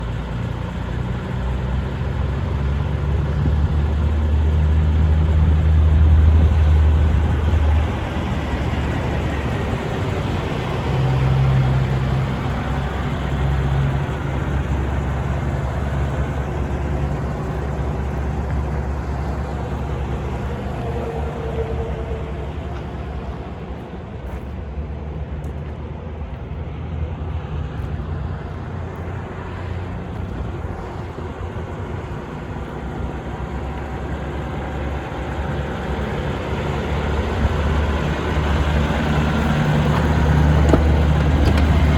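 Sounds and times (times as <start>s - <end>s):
truck diesel engine running: 0.0s - 41.9s.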